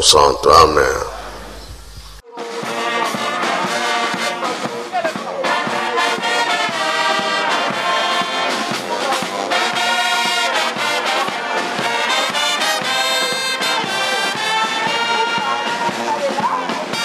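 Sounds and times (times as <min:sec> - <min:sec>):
brass band playing chords: 0:00.0 - 0:17.0.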